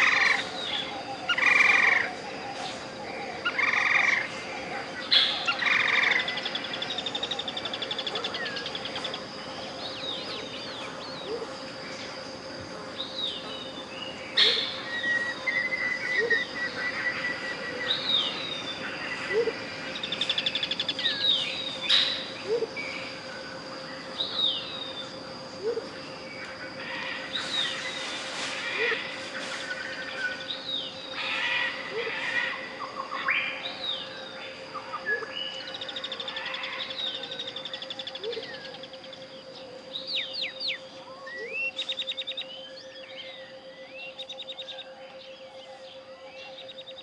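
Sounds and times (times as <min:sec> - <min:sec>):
faint high steady tone: 0:00.0 - 0:47.0
jungle birds calling: 0:00.0 - 0:47.0
steady pure tone: 0:00.0 - 0:47.0.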